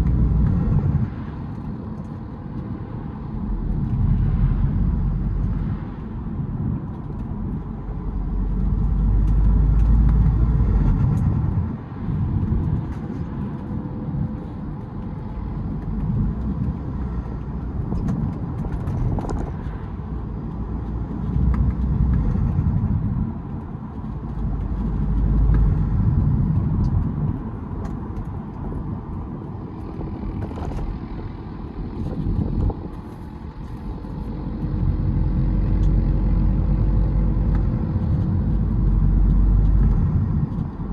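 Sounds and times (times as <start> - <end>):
road rumble: 0.0 - 40.9.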